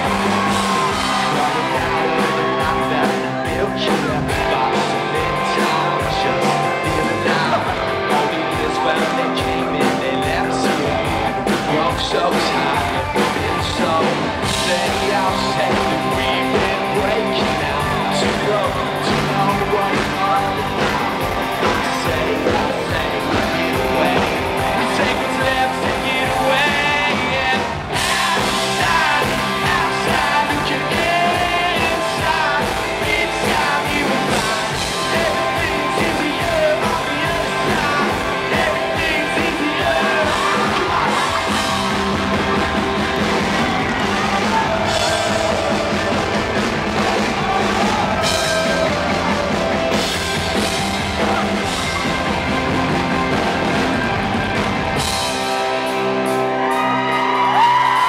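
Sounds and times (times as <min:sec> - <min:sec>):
man singing: 0:00.0 - 0:51.9
live rock band playing: 0:00.0 - 0:58.0.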